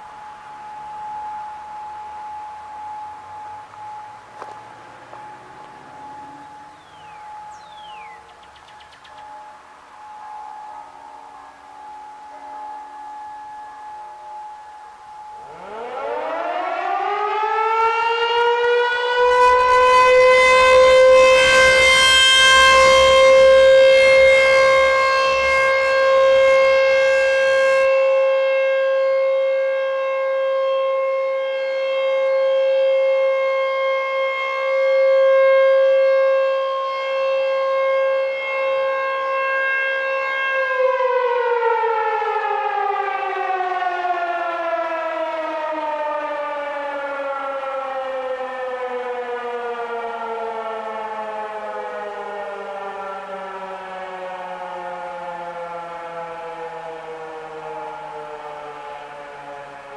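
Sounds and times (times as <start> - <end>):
rotating electronic siren: 0.0 - 59.9.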